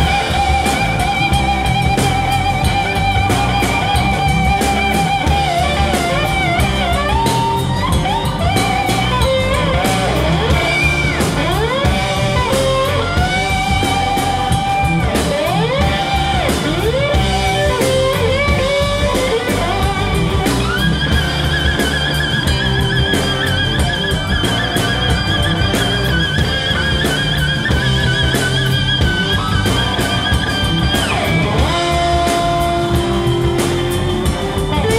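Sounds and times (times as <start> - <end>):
bass guitar: 0.0 - 34.9
drums: 0.0 - 34.9
electric slide guitar: 0.0 - 34.9.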